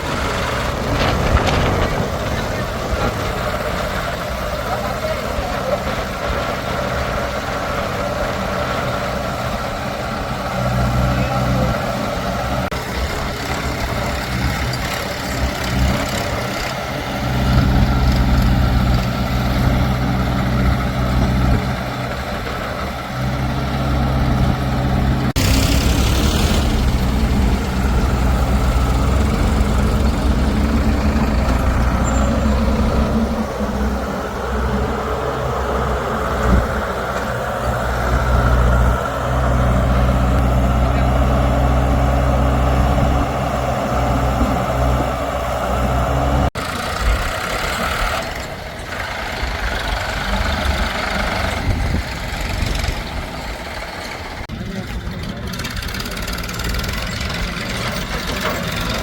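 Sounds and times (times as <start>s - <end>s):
diesel machinery engines running: 0.0s - 59.0s.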